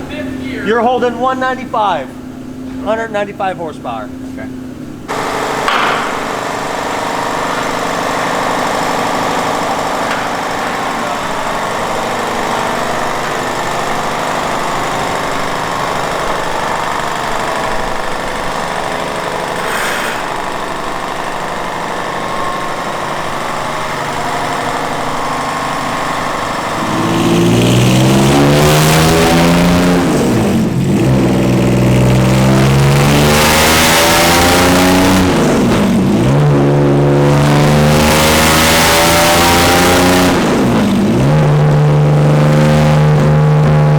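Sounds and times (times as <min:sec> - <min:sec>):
race car engine revving: 0:04.1 - 0:43.9.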